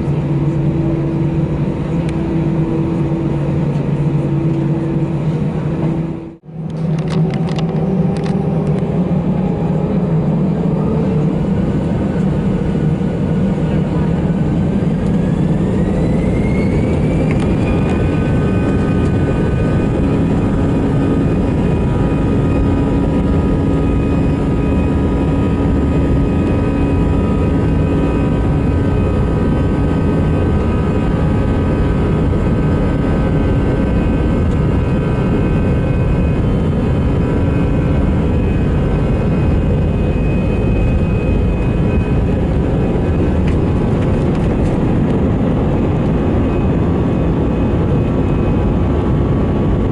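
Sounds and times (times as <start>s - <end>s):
jet engine whine: 0.0s - 49.9s
loud engine rumble: 0.0s - 49.9s.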